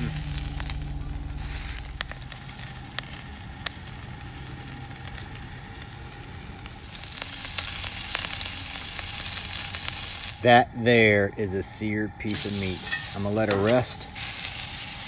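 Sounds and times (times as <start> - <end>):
steak sizzling in a skillet: 0.0 - 10.4, 12.2 - 15.0.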